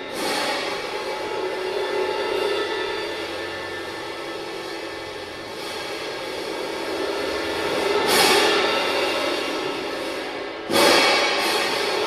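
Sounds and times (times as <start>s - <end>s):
cymbals washing: 0.0s - 12.0s
loud cymbal crash: 0.0s - 12.0s.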